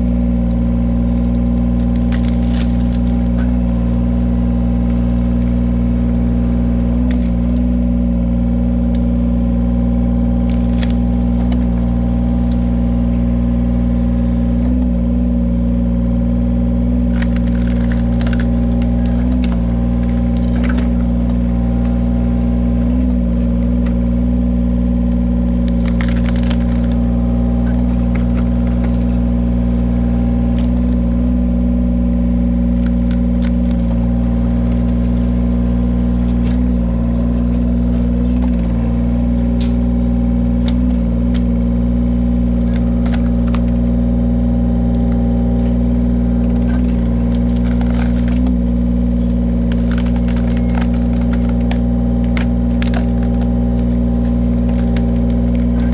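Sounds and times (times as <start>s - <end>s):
logs cracking and splintering: 0.0s - 55.9s
wood-splitting machine engine: 0.0s - 55.9s.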